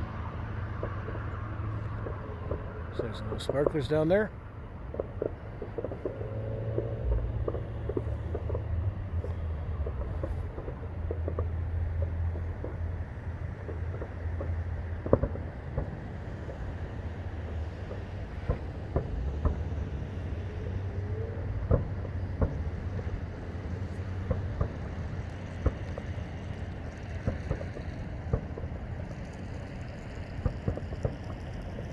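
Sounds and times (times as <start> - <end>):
distant fireworks bangs: 0.0 - 31.9
distant traffic: 0.0 - 31.9.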